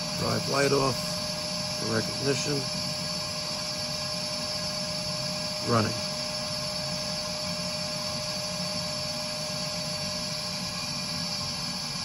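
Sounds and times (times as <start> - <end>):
boiler burner humming: 0.0 - 12.0
mid-pitched whine: 0.0 - 12.0.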